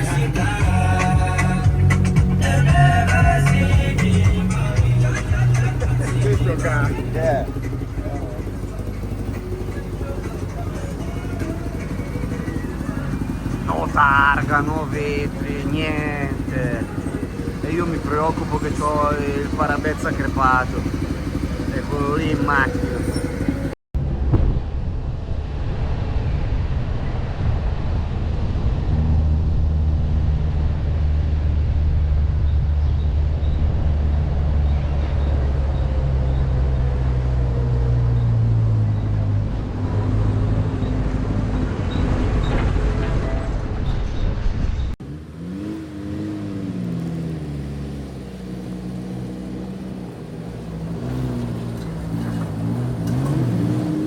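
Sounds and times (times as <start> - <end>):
car engine running: 0.0 - 25.6, 27.3 - 44.2, 44.8 - 54.0
engine revving: 0.0 - 54.0.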